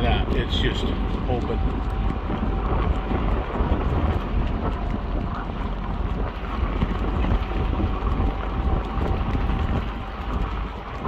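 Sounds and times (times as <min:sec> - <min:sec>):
engine and tyre rumble: 0:00.0 - 0:11.0
wind on microphone: 0:00.0 - 0:11.0.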